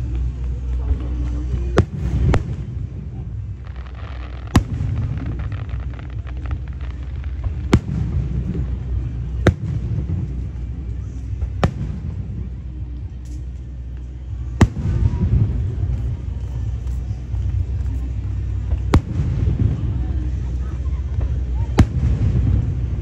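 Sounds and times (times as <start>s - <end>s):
faint firework crackling: 0.0s - 23.0s
low rumble: 0.0s - 23.0s.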